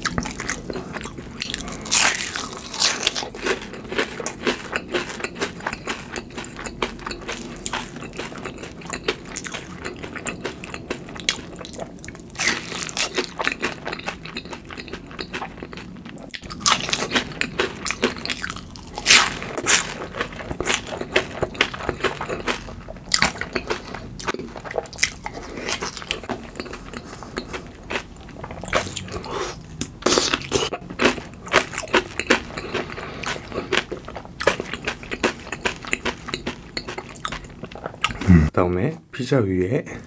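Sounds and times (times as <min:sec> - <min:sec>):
crunchy chewing of fried food: 0:00.0 - 0:38.5.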